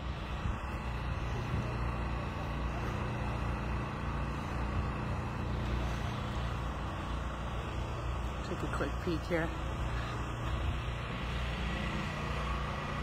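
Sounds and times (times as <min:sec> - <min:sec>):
large engine idling: 0:00.0 - 0:13.0.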